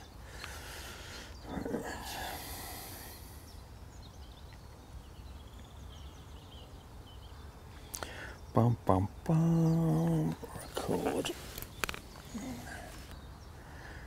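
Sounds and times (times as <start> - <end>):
faint birdsong chirps: 0.0 - 14.0.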